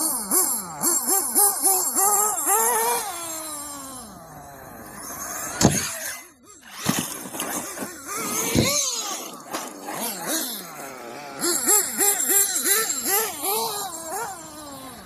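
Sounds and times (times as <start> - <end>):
rc car engines running: 0.0 - 15.0
rc car whizzing past: 0.0 - 15.0.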